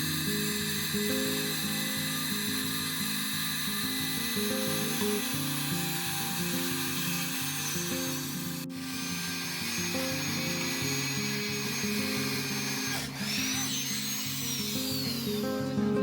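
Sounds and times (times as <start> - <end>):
power tool cutting wood: 0.0 - 16.0.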